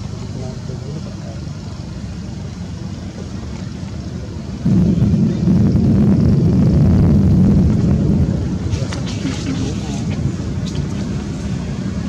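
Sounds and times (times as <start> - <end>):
wind buffeting microphone: 2.1 - 12.0.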